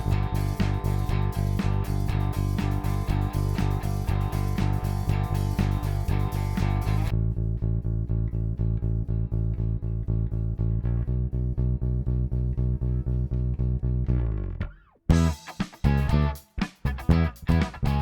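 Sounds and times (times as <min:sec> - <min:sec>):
bass guitar low notes: 0:00.0 - 0:18.0.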